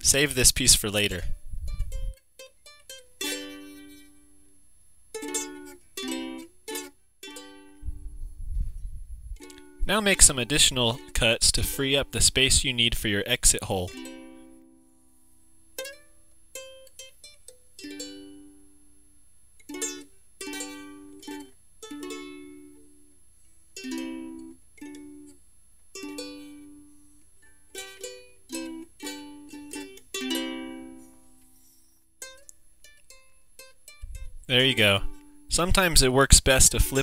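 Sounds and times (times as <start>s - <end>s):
plucked string instrument: 1.0s - 8.4s, 9.4s - 12.8s, 13.7s - 15.0s, 15.6s - 19.0s, 19.6s - 23.1s, 23.8s - 37.0s.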